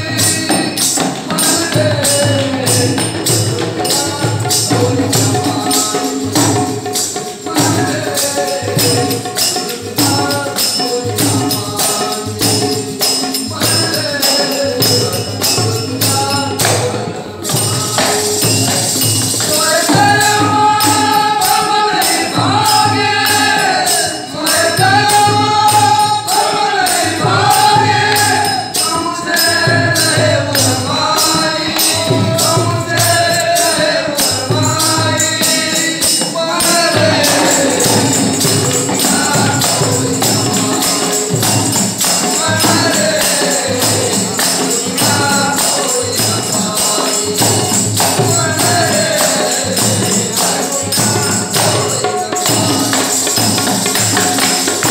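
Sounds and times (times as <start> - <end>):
jingling hand percussion: 0.0 - 54.9.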